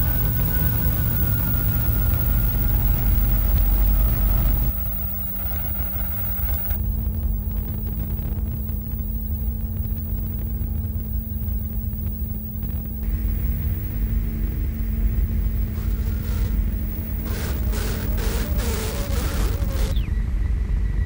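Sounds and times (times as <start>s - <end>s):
low rumbling drone: 0.0s - 21.0s
steady hum: 0.0s - 21.0s.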